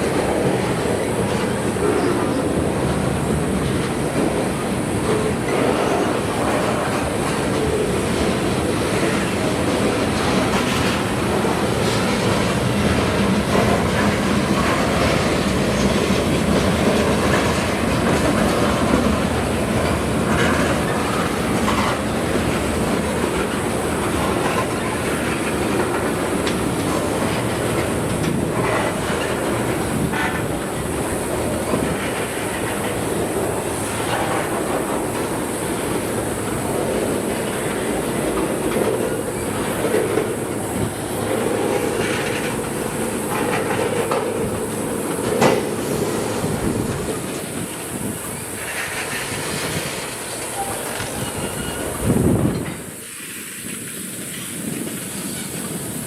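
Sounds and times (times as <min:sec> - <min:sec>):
freight train cars rolling past: 0:00.0 - 0:56.0
wheels clattering over rail joints: 0:00.0 - 0:56.0.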